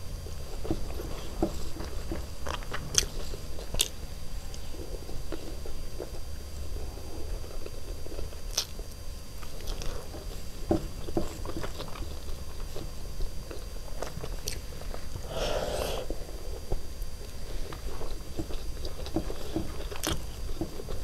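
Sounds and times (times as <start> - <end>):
person chewing food: 0.5 - 6.3, 7.2 - 8.8, 9.4 - 10.4, 11.0 - 21.0.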